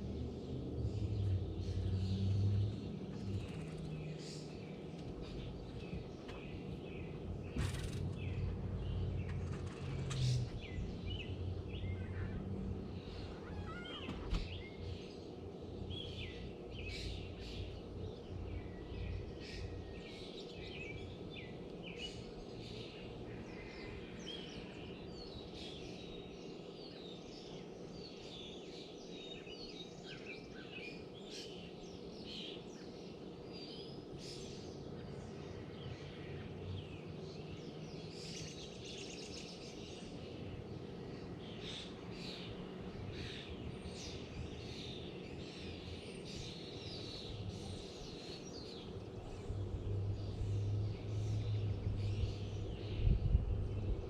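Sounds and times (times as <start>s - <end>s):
low background rumble: 0.0s - 23.9s, 32.1s - 54.0s
small birds chirping chorus: 0.0s - 54.0s.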